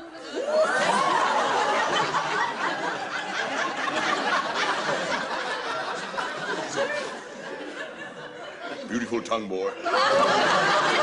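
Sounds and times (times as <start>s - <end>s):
studio audience laughing: 0.4s - 9.1s, 9.7s - 11.0s.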